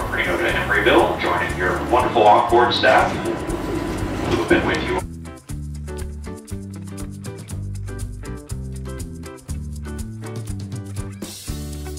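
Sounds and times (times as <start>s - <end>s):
background music with beat: 0.0s - 11.9s.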